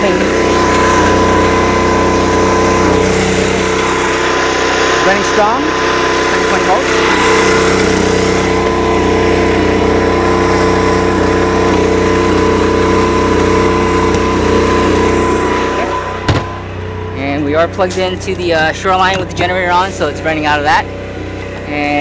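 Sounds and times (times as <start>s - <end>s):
generator running: 0.0s - 22.0s.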